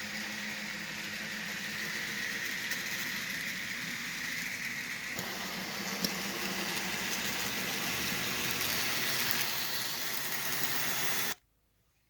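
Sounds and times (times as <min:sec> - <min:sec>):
model train motor whirring: 0:00.0 - 0:11.4.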